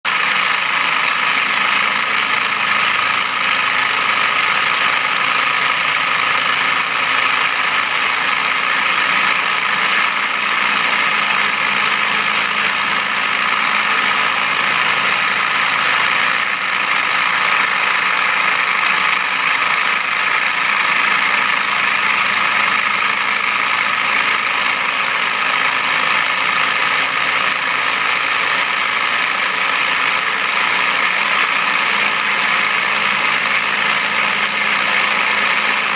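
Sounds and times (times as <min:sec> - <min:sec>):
milling machine whining: 0:00.1 - 0:35.9.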